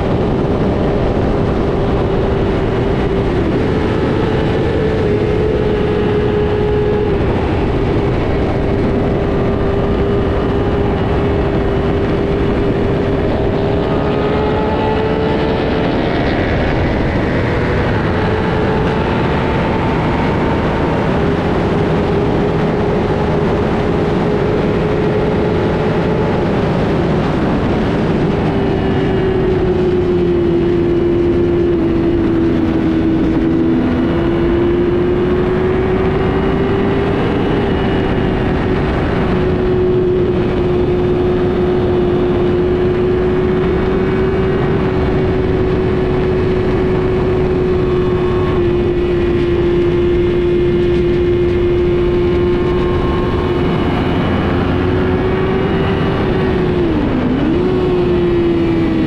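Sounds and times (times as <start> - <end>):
loud constant noise: 0.0 - 59.0
motorcycle engine running: 0.0 - 59.0.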